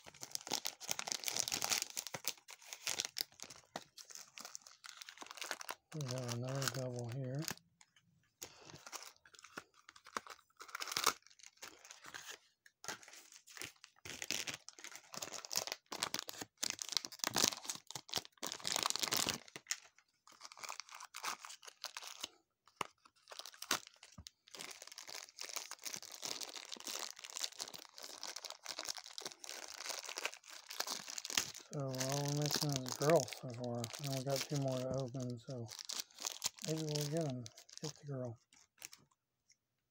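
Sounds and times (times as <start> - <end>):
plastic bags crinkling: 0.0 - 7.8, 8.4 - 12.3, 13.4 - 22.3, 23.2 - 39.0.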